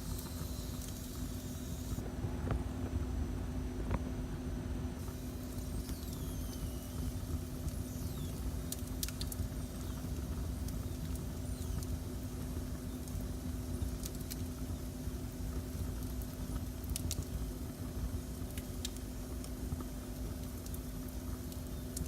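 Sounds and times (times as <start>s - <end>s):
fire crackles and pops: 0.0s - 2.0s, 5.0s - 22.0s.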